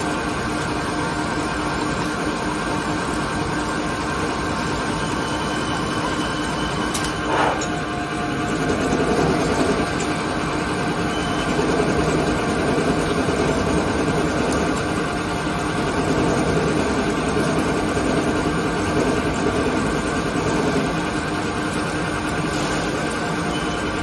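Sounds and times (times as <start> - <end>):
lathe running: 0.0 - 24.0.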